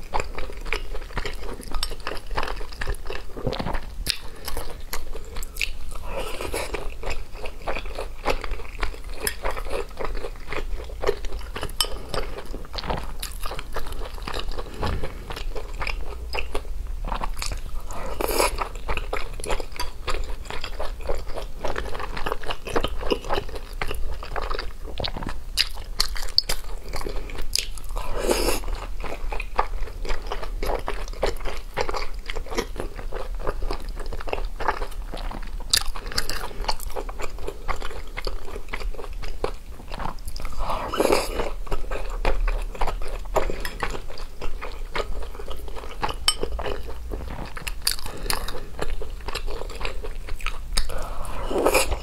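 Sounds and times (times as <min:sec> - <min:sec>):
person chewing: 0:00.0 - 0:52.0.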